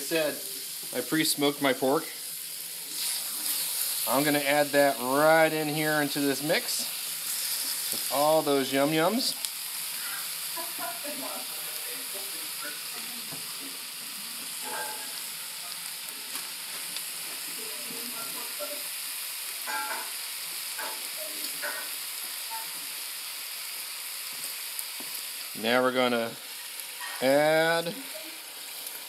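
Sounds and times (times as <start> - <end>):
vegetables sizzling in a pot: 0.0 - 29.0.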